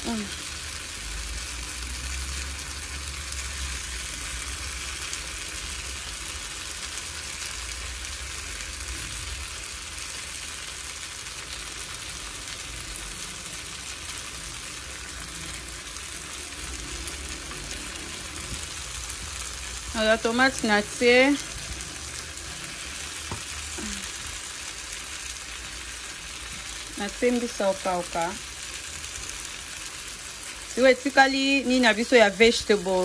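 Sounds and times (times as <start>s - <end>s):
vegetables sizzling in frying pan: 0.0s - 33.0s.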